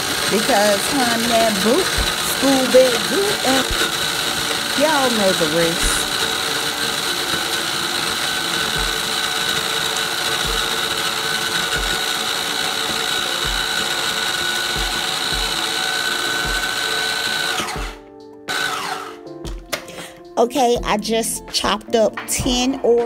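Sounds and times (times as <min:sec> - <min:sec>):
food chopper motor whine: 0:00.0 - 0:20.3.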